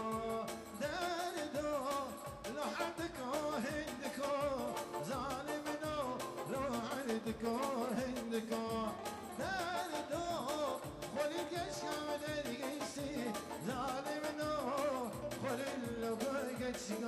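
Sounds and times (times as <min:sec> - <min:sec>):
folk dance music with singing: 0:00.0 - 0:17.0.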